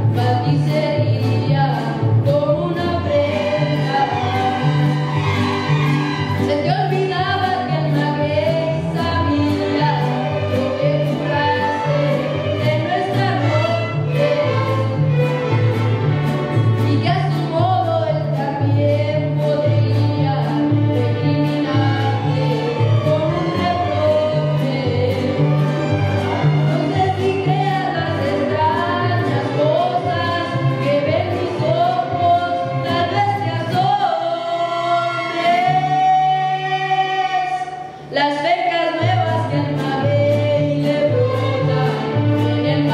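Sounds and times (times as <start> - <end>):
bass guitar alternating notes: 0.0 - 34.8
strummed guitars: 0.0 - 42.9
violins: 0.0 - 42.9.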